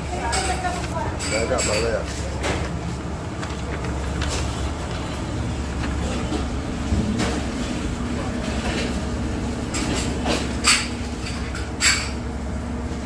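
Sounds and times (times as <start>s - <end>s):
kitchen machinery rumble: 0.0s - 13.0s.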